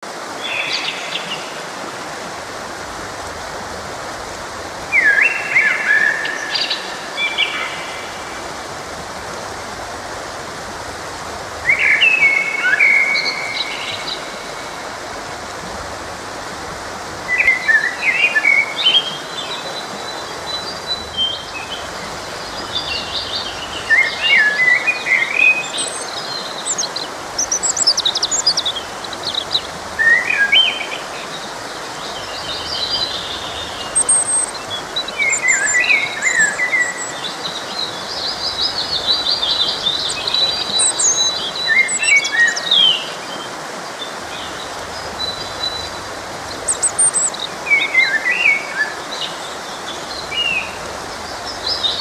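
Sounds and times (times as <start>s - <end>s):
forest stream rushing: 0.0s - 52.0s
songbirds chirping and trilling: 0.1s - 52.0s.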